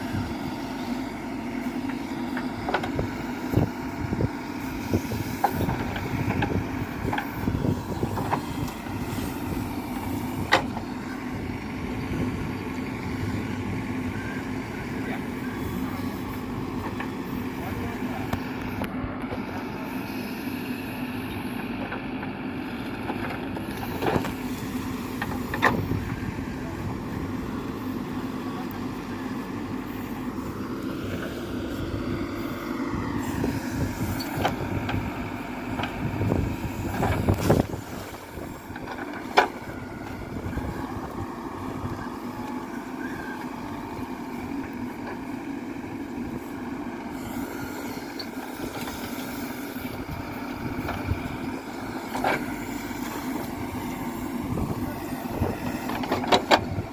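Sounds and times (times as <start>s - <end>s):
heavy diesel machinery running: 0.0s - 56.9s.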